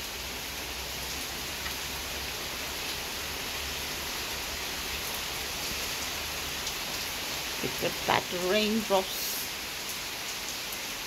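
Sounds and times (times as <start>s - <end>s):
rain on leaves and pavement: 0.0s - 11.0s.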